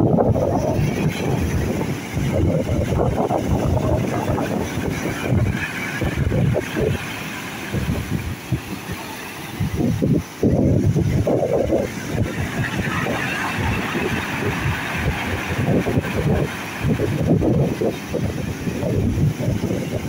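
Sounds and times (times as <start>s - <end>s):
surf washing over pebbles: 0.0s - 20.0s
wind rumbling on microphone: 0.0s - 20.0s.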